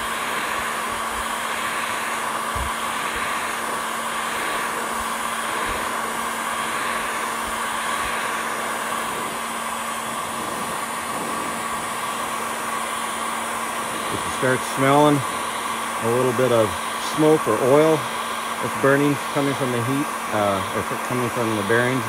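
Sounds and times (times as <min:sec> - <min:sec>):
heat gun blowing air: 0:00.0 - 0:22.0.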